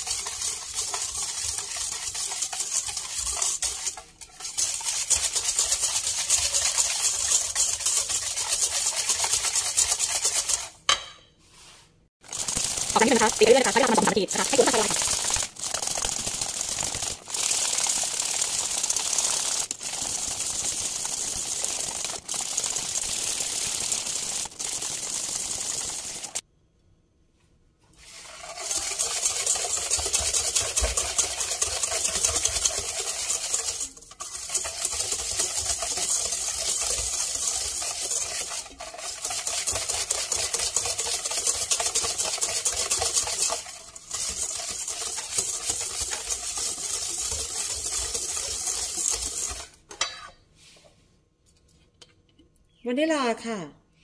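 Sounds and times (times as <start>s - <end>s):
whisk rattling in a metal bowl: 0.0s - 10.9s, 12.2s - 26.4s, 28.0s - 50.1s.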